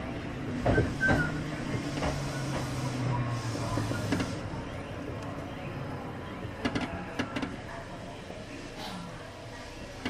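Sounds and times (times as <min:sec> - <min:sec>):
train low steady hum: 0:00.0 - 0:10.0.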